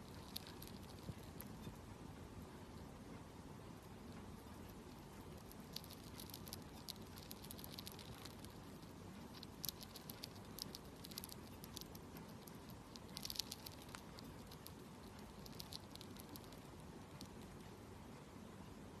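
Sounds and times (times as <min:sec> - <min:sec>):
hamster crunching food: 0:00.0 - 0:18.6.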